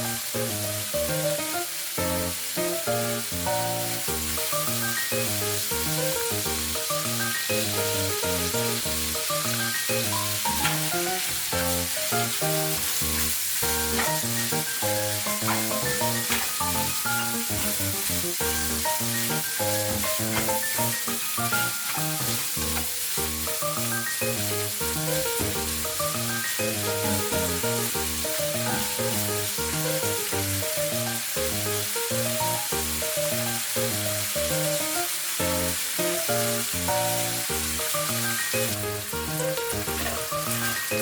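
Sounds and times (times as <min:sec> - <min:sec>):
background music: 0:00.0 - 0:41.0
food sizzling in a pan: 0:00.0 - 0:41.0.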